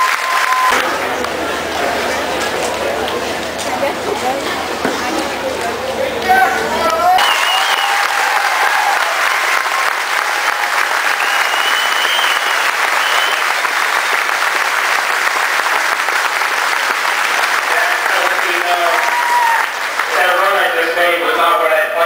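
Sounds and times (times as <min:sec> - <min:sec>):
large crowd applauding: 0:00.0 - 0:21.6.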